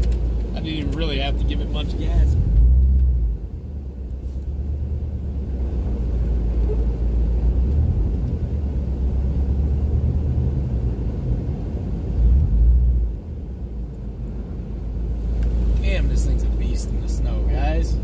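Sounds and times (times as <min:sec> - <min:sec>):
vehicle driving rumble: 0:00.0 - 0:18.0.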